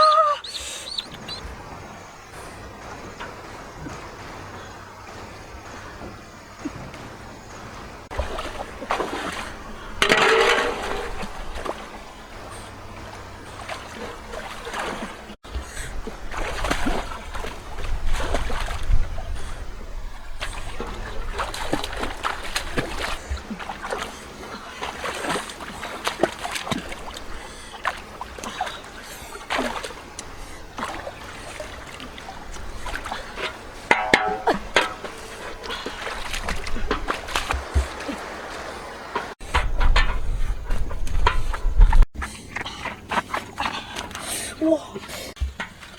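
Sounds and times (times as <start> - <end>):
river water splashing: 0.0 - 39.6, 40.6 - 45.9.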